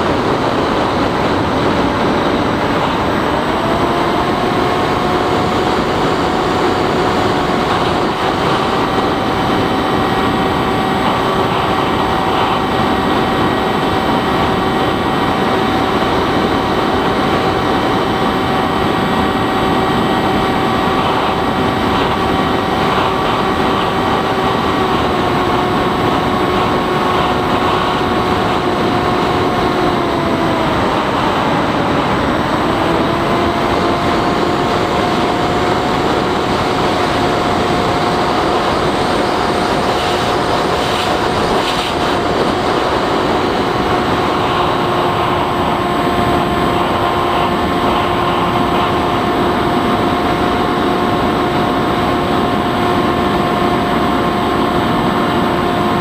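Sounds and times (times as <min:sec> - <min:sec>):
model plane electric motor whine: 0:00.0 - 0:56.0
rush of airflow: 0:00.0 - 0:56.0.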